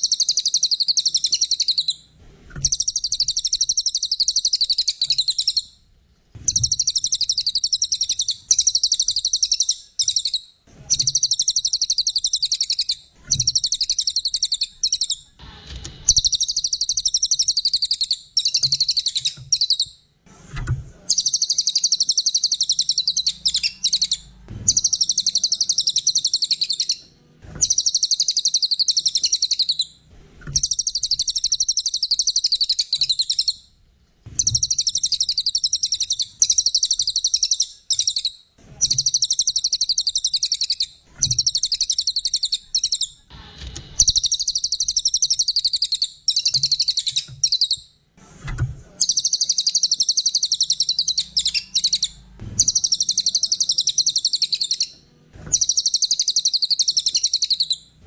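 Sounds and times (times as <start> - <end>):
songbird chattering trill: 0.0 - 2.0, 2.6 - 5.7, 6.5 - 15.2, 16.1 - 19.9, 21.1 - 27.0, 27.6 - 29.9, 30.6 - 33.6, 34.4 - 43.2, 44.0 - 47.8, 49.0 - 54.9, 55.6 - 57.8.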